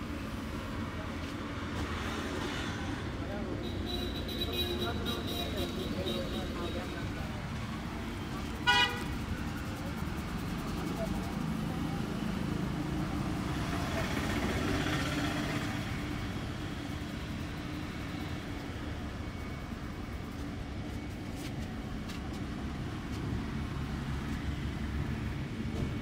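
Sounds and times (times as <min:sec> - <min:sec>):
passing vehicles rumbling: 0:00.0 - 0:26.0.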